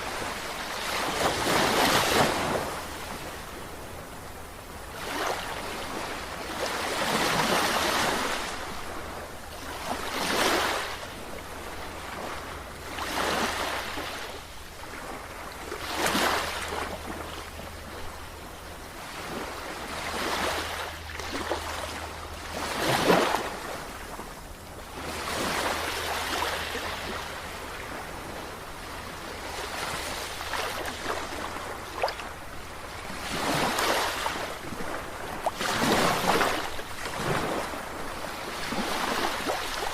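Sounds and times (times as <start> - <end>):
sea waves breaking: 0.0 - 4.1, 4.8 - 18.1, 18.9 - 39.9.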